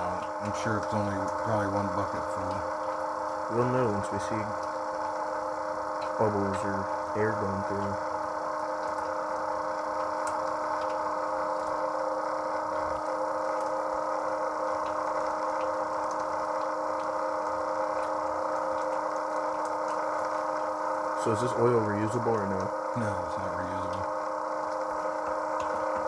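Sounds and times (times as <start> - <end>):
oil pump humming: 0.0 - 26.0.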